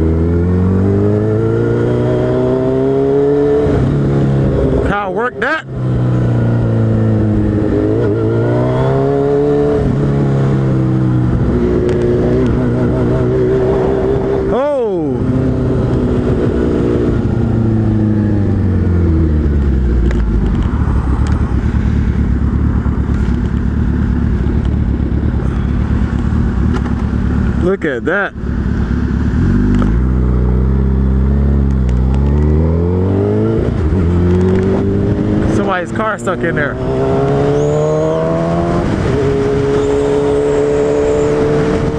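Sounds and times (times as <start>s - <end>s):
motorcycle engine at low revs: 0.0s - 41.9s.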